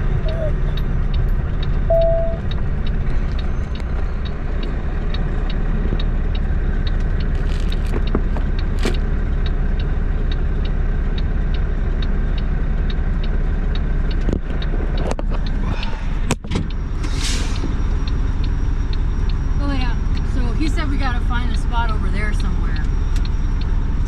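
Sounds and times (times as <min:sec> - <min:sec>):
turn signal ticking: 0:00.0 - 0:17.1, 0:17.7 - 0:24.0
truck engine and road noise: 0:00.0 - 0:24.0.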